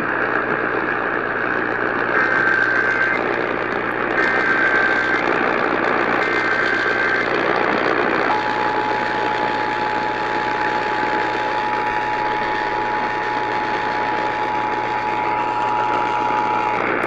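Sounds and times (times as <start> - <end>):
radio static: 0.0 - 17.0.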